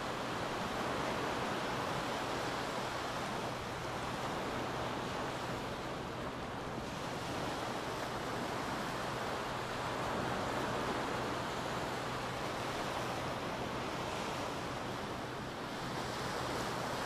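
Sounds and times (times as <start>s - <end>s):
waves washing up a beach: 0.0s - 17.0s.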